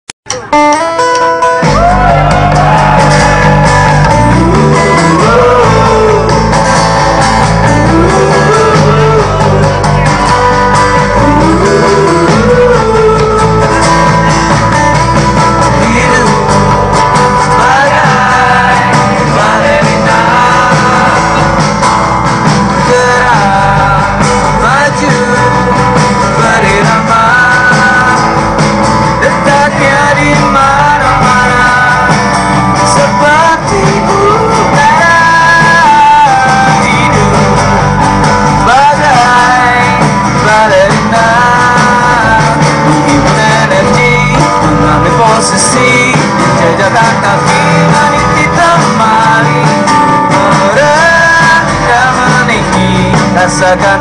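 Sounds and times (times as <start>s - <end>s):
live rock band playing: 0.2s - 54.0s
person singing: 0.3s - 21.9s, 22.6s - 54.0s.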